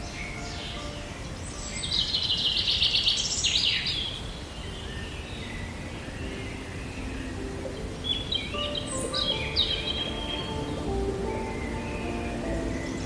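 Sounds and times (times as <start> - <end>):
outdoor background hiss: 0.0 - 13.0
songbird trilling: 0.0 - 13.0.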